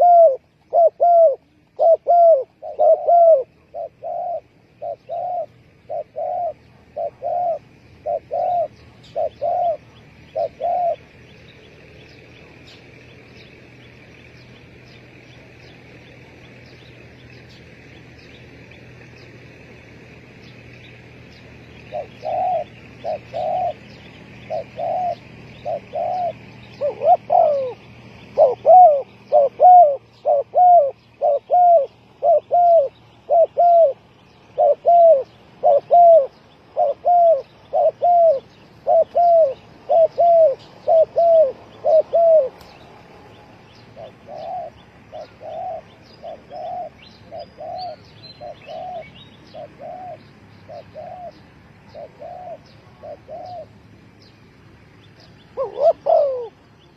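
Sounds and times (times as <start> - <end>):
doves cooing: 0.0 - 54.0, 55.0 - 56.9.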